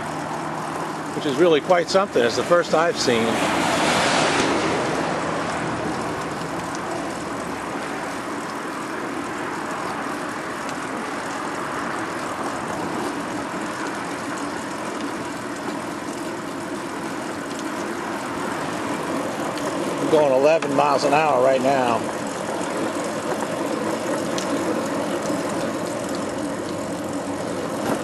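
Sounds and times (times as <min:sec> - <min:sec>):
highway traffic: 0:00.0 - 0:27.2
bicycle road noise: 0:00.0 - 0:28.0.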